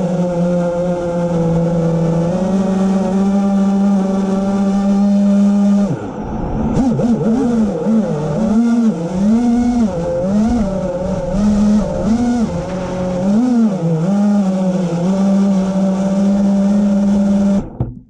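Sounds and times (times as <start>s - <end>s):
electric propeller motors humming: 0.0s - 17.8s.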